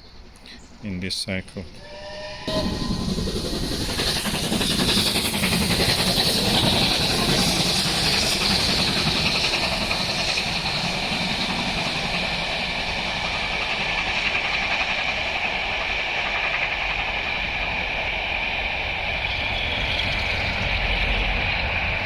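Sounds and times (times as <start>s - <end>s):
steady loud hissing: 0.0s - 22.0s.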